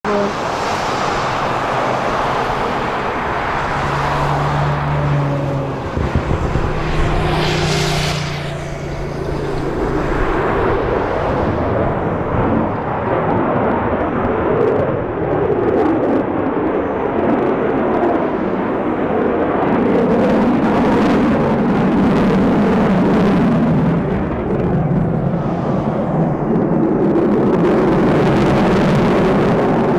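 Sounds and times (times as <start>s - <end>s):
jet engines on takeoff: 0.0s - 29.9s.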